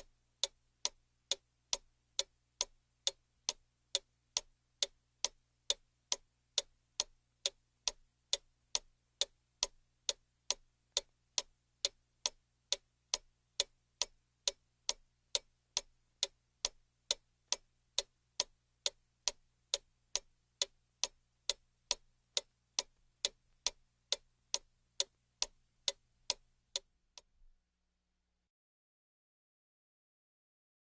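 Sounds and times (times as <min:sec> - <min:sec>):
mantel clock ticking: 0:00.0 - 0:27.3.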